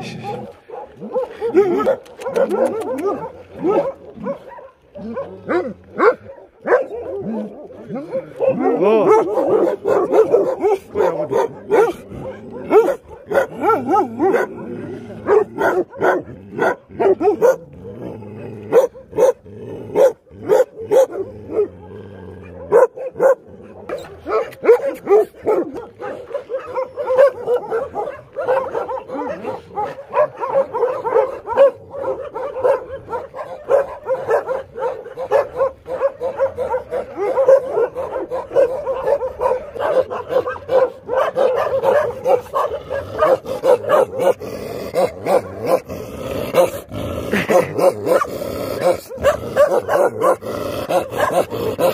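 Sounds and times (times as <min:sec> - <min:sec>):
dogs barking: 0:00.0 - 0:51.9.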